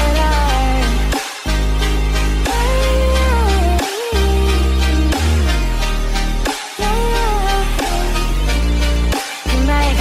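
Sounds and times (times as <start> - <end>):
music with heavy bass: 0.0 - 10.0.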